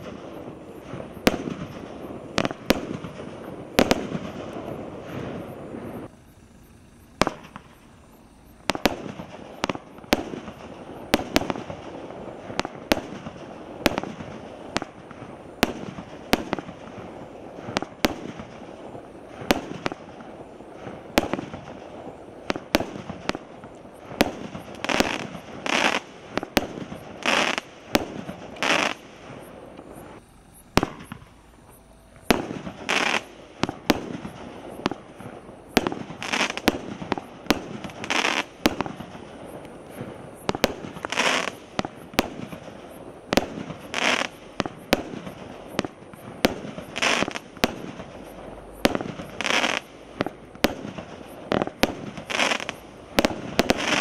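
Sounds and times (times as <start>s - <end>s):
firework shots banging: 0.0s - 54.0s.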